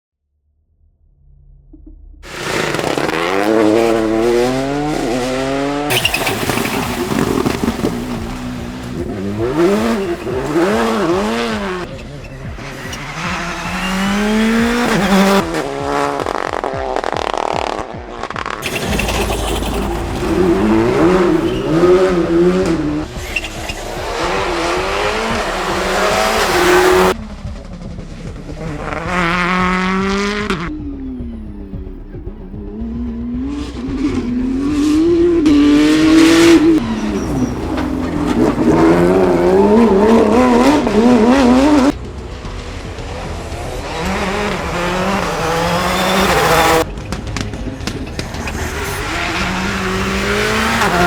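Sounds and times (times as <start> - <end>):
rally car engines revving: 2.2 - 51.0.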